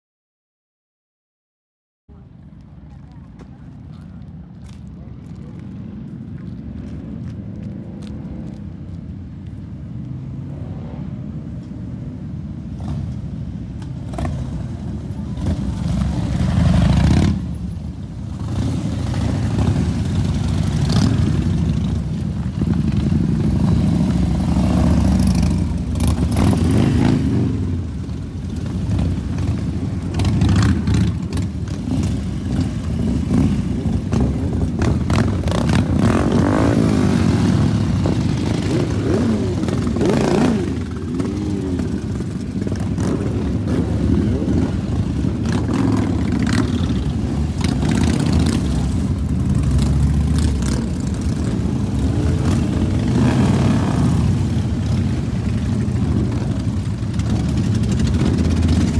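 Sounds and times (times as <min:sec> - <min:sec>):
motorcycle engines rumbling: 0:02.1 - 0:58.9
motorcycle revving: 0:10.5 - 0:58.9.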